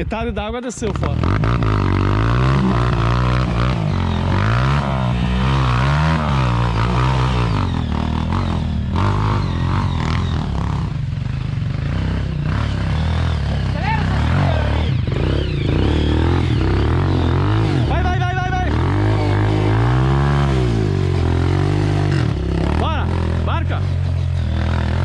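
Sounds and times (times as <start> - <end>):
vehicle engine revving: 0.8 - 25.0.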